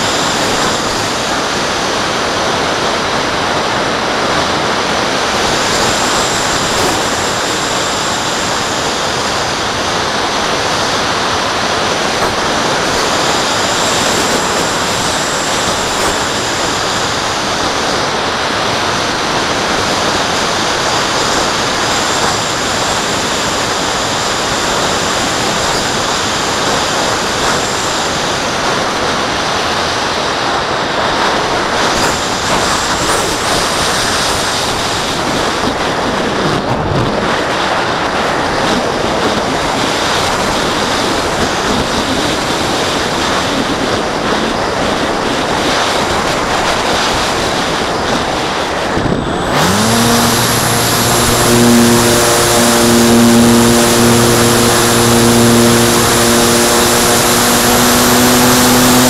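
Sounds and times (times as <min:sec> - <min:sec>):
faint high whine: 0:00.0 - 0:59.0
rushing airflow: 0:00.0 - 0:59.0.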